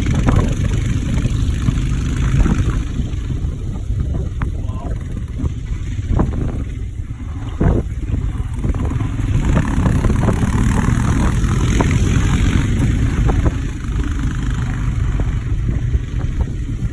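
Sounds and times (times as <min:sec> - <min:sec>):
motorcycle engine running: 0:00.0 - 0:16.9
wind buffeting microphone: 0:00.0 - 0:16.9.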